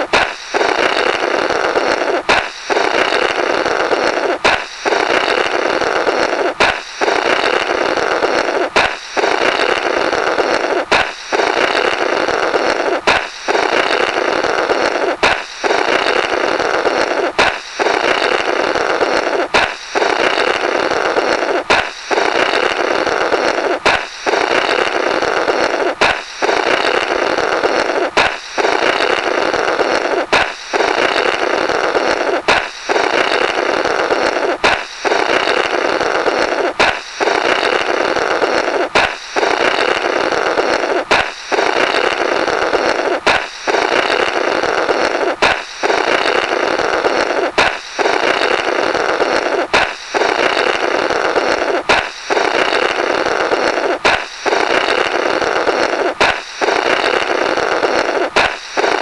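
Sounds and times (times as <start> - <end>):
balloon pop: 0.0 - 59.0
buzzy rasp of air through balloon: 0.0 - 59.0.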